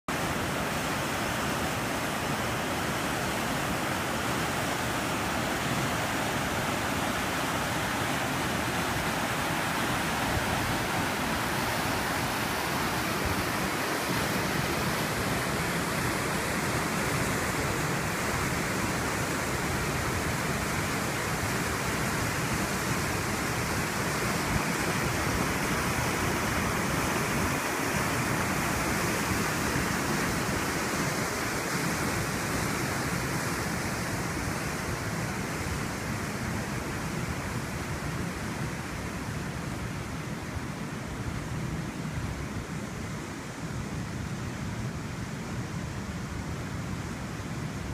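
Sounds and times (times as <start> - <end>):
river rapids rushing: 0.1 - 47.9.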